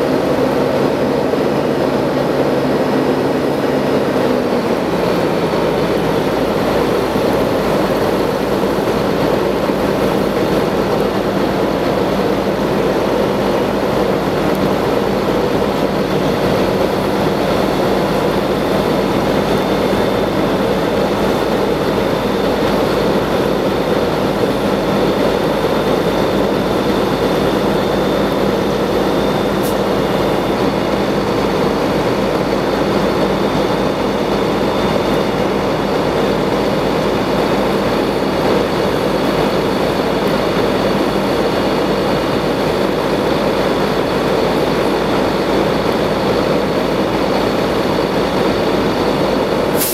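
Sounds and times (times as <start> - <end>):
fire engine pump droning: 0.0 - 49.9.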